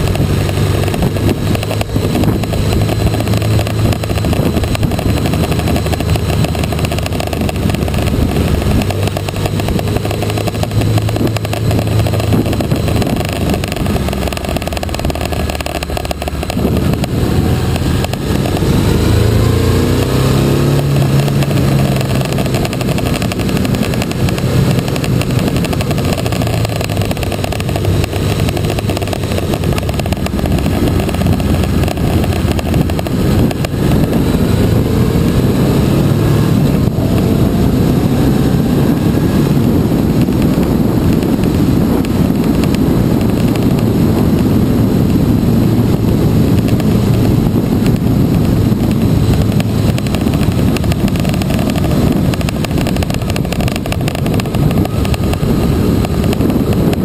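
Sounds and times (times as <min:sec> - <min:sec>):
motorcycle engine running: 0:00.0 - 0:57.0
rushing wind noise: 0:00.0 - 0:57.0.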